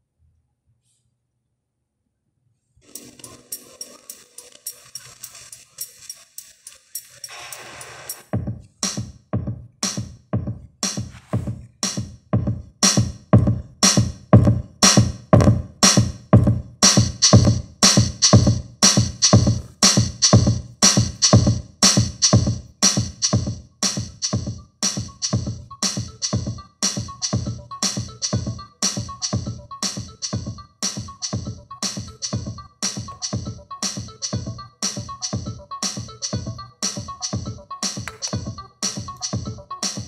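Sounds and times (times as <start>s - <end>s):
electronic music with heavy bass: 2.9s - 12.0s, 12.8s - 40.0s.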